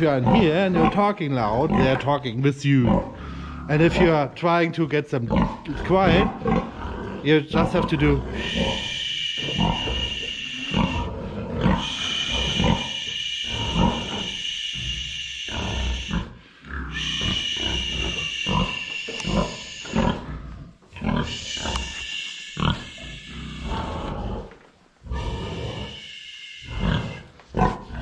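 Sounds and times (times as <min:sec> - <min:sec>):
pigs grunting: 0:00.0 - 0:04.4, 0:05.2 - 0:28.0
pigs squealing: 0:02.9 - 0:04.2, 0:05.3 - 0:24.5, 0:25.1 - 0:28.0.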